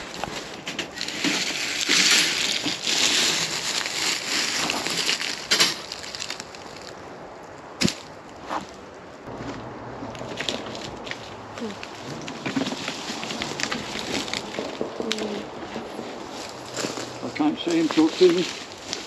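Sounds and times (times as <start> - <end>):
crunching in dry leaf litter: 0.0 - 7.0, 9.3 - 19.0.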